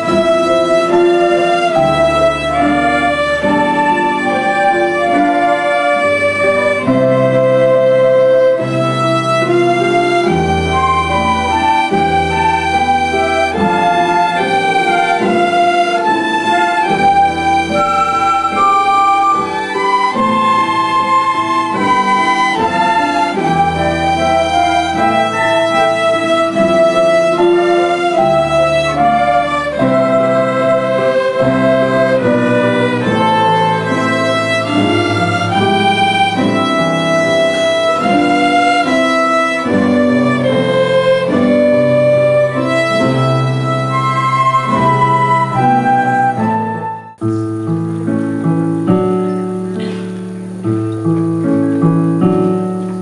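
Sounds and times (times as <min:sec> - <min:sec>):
violins playing melody: 0:00.0 - 0:47.2
orchestra playing: 0:00.0 - 0:53.0.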